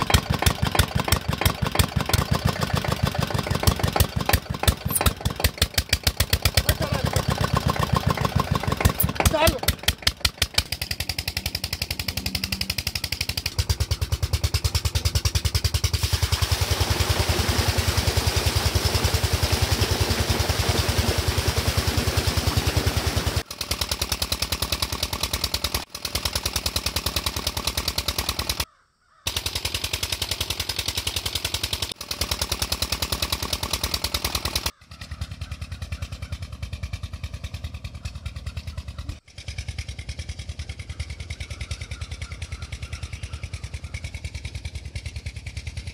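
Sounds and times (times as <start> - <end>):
diesel engine running: 0.0 - 28.7, 29.3 - 45.9.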